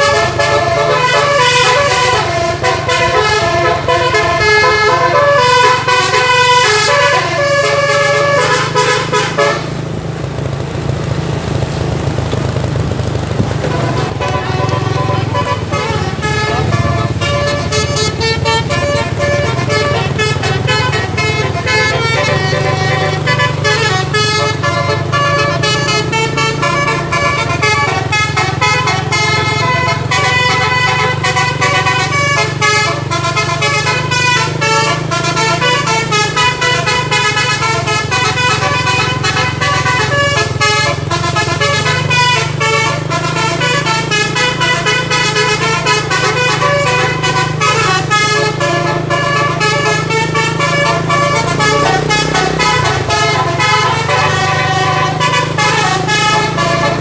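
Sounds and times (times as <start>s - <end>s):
musical air horn melody: 0.0s - 10.1s, 13.6s - 57.0s
diesel engine hum: 0.0s - 57.0s.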